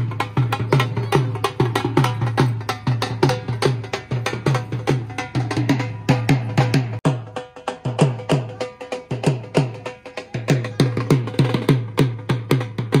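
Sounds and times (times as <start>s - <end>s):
fast steady drumming: 0.0s - 13.0s.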